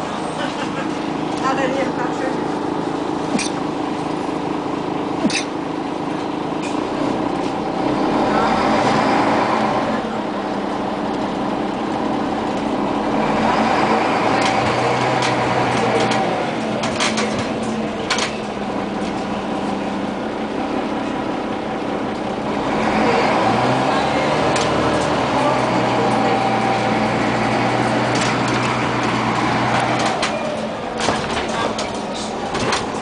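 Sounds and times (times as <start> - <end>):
bus body rattling: 0.0 - 33.0
bus engine driving: 0.0 - 33.0.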